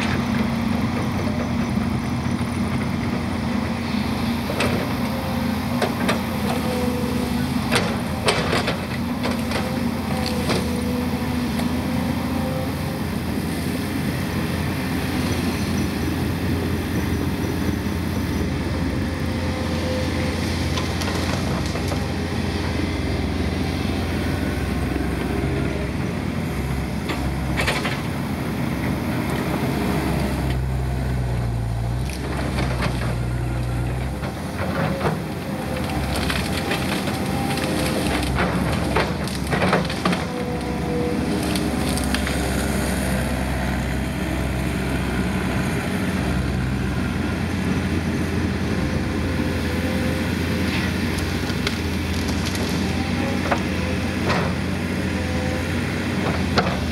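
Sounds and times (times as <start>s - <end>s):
excavator diesel engine: 0.0s - 56.9s.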